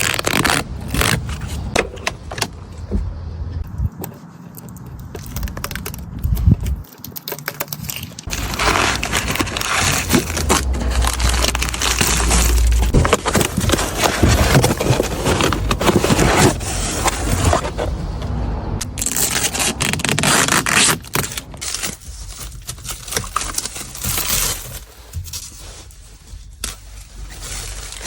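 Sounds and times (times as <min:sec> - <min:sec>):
plastic wrapping crinkling: 0:00.0 - 0:01.8, 0:04.5 - 0:17.8, 0:18.8 - 0:28.0.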